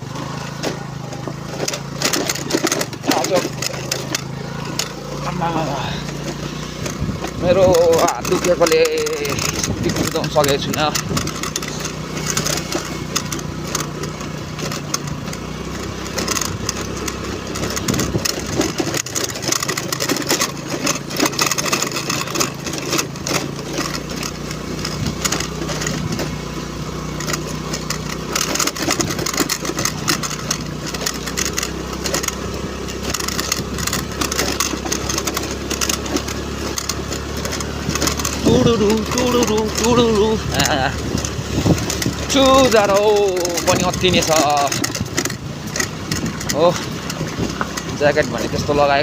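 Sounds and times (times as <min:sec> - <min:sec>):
scooter engine running: 0:00.0 - 0:49.0.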